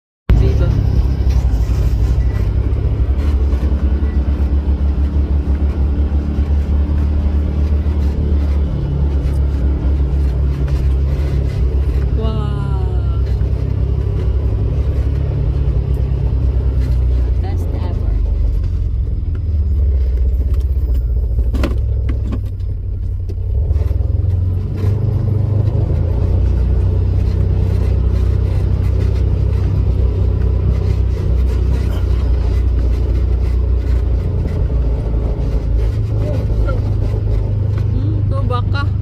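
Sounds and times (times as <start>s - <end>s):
car driving rumble: 0.3s - 39.0s.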